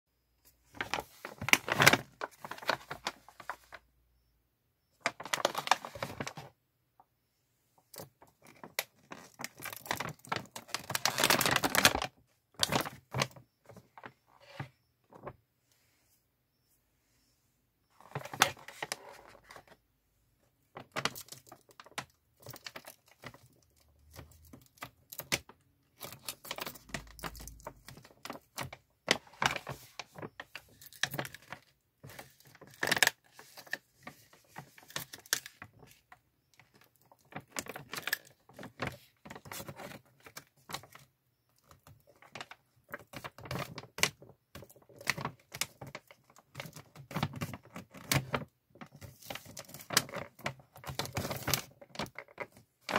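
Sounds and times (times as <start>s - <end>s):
plastic bag crinkling: 0.7s - 3.8s, 5.0s - 6.5s, 8.0s - 15.3s, 20.7s - 41.0s, 41.6s - 52.9s.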